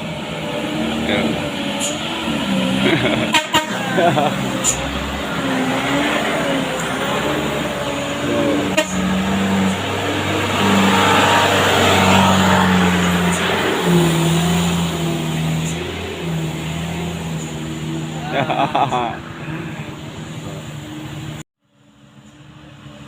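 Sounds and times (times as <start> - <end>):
truck engine under load: 0.0 - 23.0.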